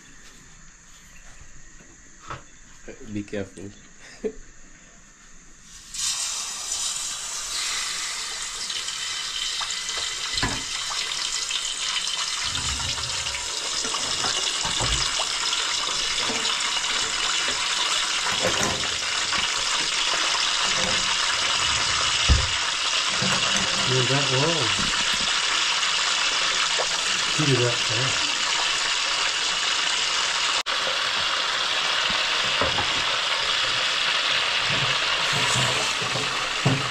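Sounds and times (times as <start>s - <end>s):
fish sizzling in hot oil: 5.7s - 36.9s.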